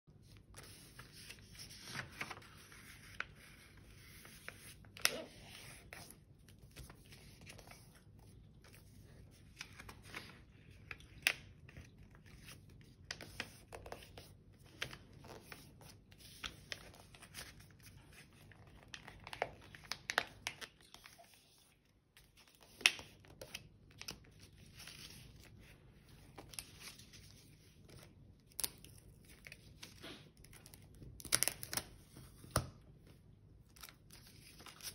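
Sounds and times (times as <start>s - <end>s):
paper folding and rustling: 0.2s - 32.8s, 33.7s - 34.9s.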